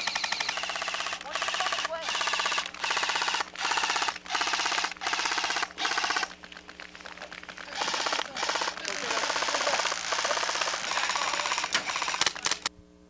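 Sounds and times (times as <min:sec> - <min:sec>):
airsoft gun firing bursts: 0:00.0 - 0:12.7
scattered airsoft shots: 0:00.0 - 0:12.7.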